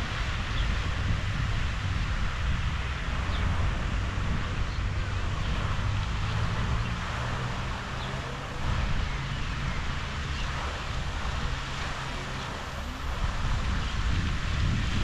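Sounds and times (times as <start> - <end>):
fountain water falling on lake: 0.0 - 15.0
wind rumble on microphone: 0.0 - 15.0.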